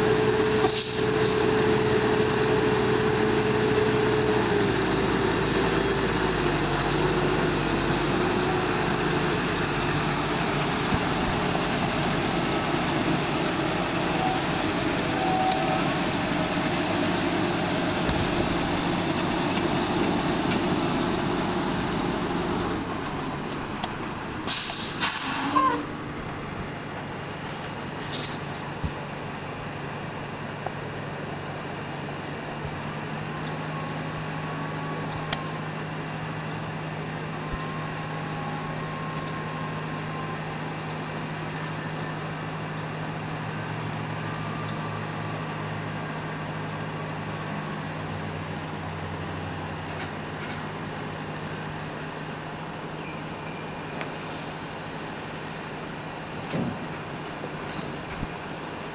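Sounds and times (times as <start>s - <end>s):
broad steady noise: 0.0s - 58.9s
diesel engine humming: 0.0s - 58.9s.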